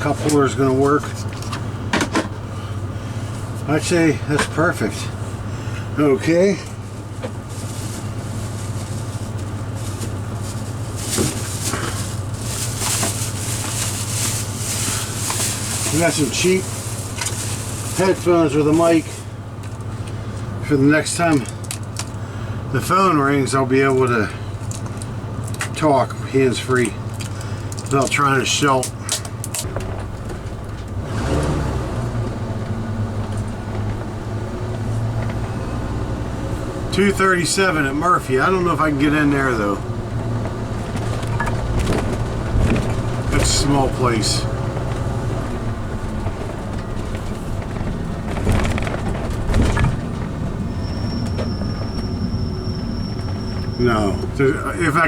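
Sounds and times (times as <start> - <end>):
engine and road drone: 0.0 - 55.0.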